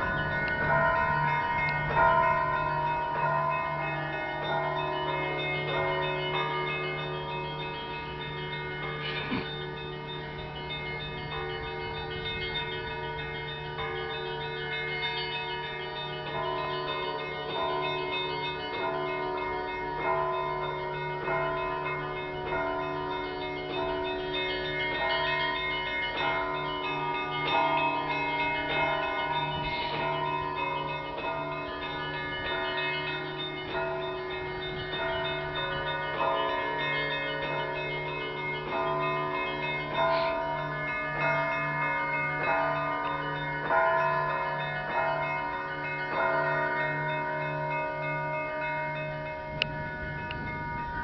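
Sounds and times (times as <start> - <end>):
church bells ringing: 0.0 - 51.0
low bell humming: 0.0 - 51.0.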